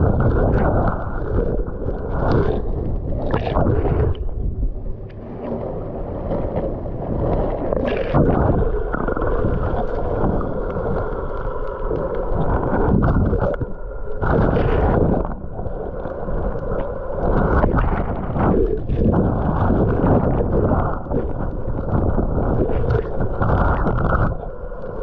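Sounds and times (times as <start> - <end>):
muffled water sloshing and gurgling: 0.0 - 25.0.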